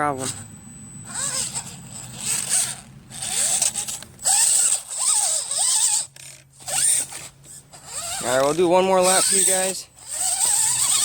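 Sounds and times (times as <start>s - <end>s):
rc car electric motor whining: 0.0s - 11.0s.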